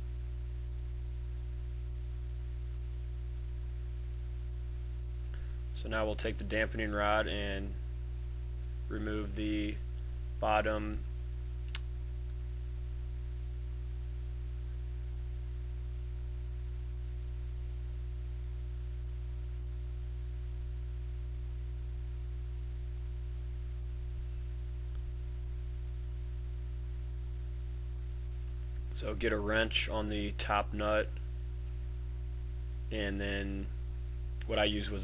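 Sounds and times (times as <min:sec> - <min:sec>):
low electrical hum with tones: 0:00.0 - 0:35.0.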